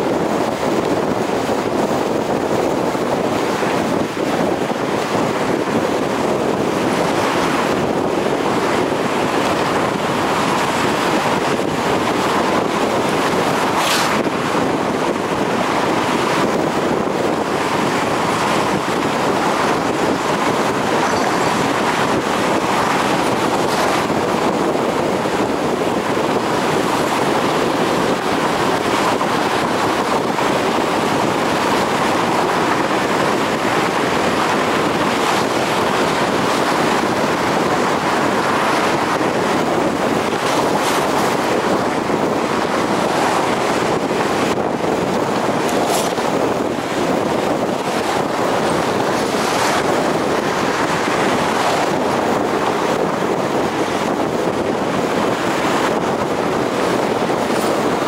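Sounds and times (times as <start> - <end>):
car tyre and wind noise: 0.0 - 58.0.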